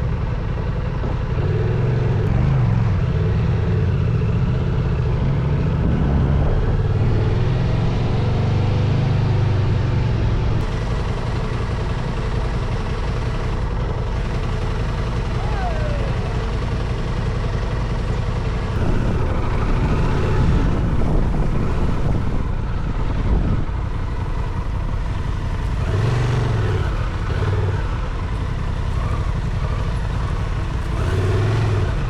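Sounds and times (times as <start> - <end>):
motorcycle engine running: 0.0 - 32.0
wind and rolling noise: 0.0 - 32.0.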